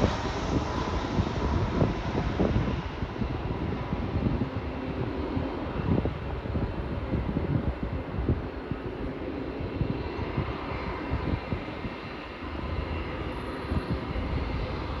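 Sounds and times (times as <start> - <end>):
jet engines of landing airliner: 0.0 - 15.0
wind buffeting microphone: 0.0 - 15.0.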